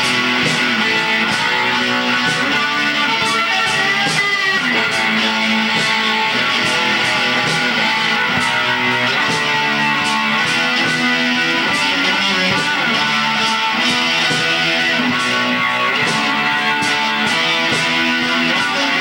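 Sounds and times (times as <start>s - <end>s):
electric guitars playing heavy metal: 0.0s - 19.0s.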